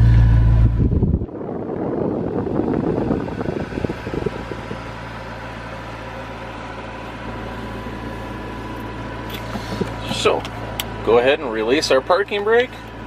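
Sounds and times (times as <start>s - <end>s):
car engine idling: 0.0s - 13.0s
climate control fan blowing: 0.0s - 13.0s.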